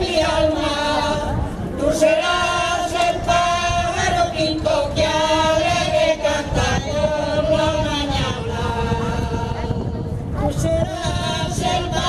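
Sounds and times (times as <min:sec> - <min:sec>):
women singing in unison: 0:00.0 - 0:12.0.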